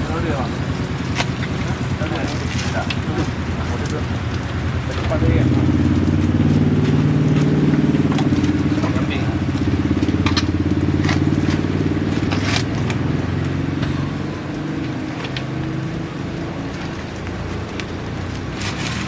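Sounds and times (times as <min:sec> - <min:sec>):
sharp clicks and clatters: 0:00.0 - 0:19.0
vehicle engine running: 0:00.0 - 0:19.0.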